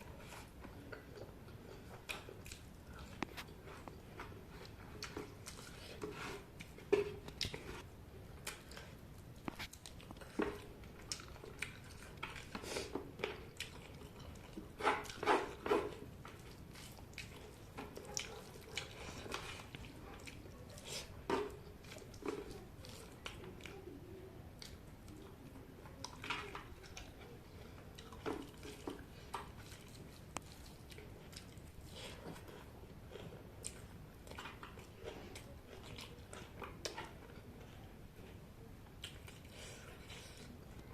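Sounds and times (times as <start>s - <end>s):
close-up chewing: 0.0s - 40.9s.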